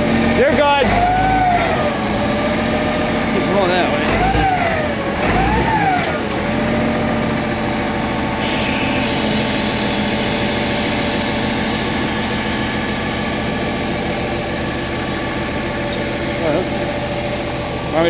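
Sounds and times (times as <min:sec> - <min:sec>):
heavy machine engine idling: 0:00.0 - 0:18.0.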